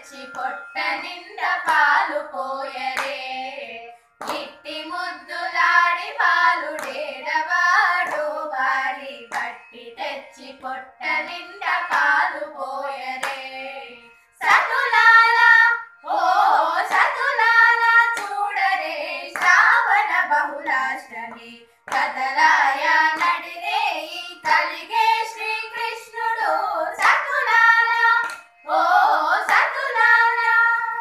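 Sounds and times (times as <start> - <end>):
girls singing together: 0.0 - 31.0.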